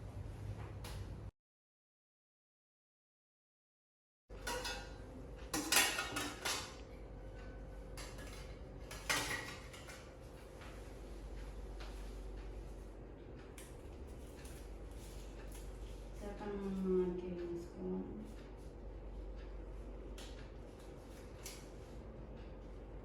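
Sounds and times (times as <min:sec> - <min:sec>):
steady low hum: 0:04.3 - 0:23.0.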